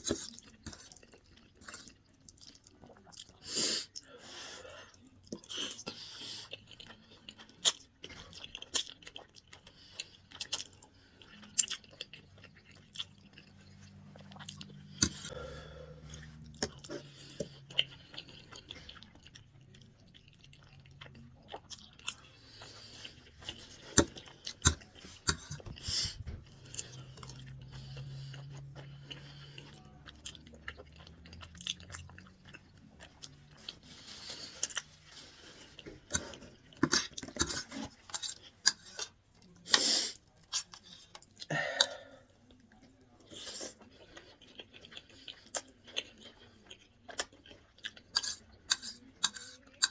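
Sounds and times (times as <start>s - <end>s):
close-up chewing: 0.0s - 49.9s.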